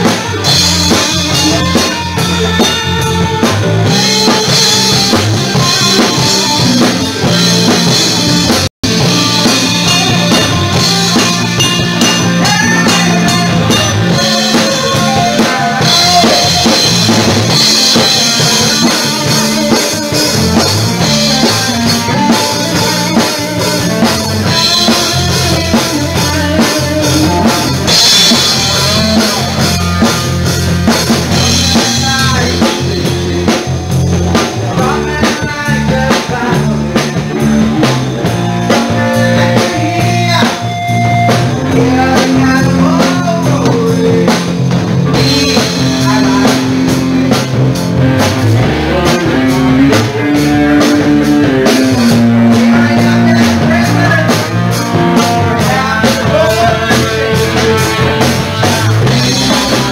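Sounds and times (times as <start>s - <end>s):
bass guitar: 0.0s - 59.9s
drum kit beat: 0.0s - 59.9s
electric guitar: 0.0s - 59.9s.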